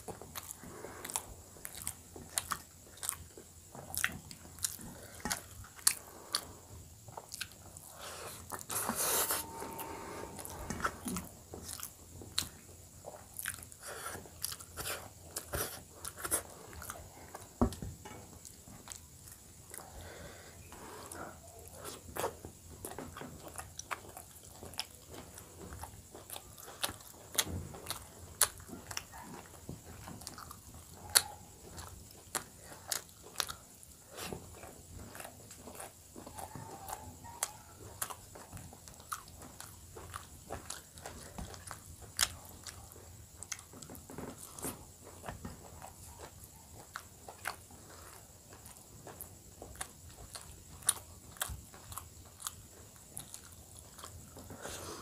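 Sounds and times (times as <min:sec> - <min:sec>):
man chewing food: 0:00.0 - 0:55.0.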